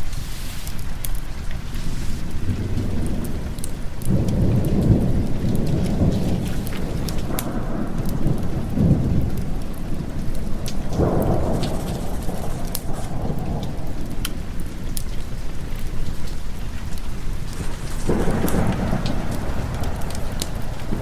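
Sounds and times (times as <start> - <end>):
heavy rain: 0.0 - 21.0
wood fire crackling: 0.0 - 21.0
rolling thunder: 1.5 - 21.0.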